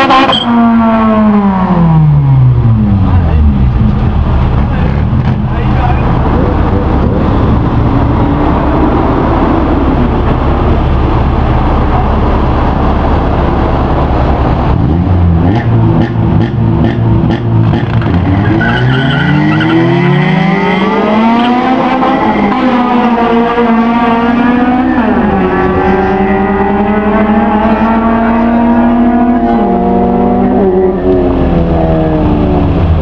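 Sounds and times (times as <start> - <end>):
car engines revving and accelerating: 0.0 - 33.0.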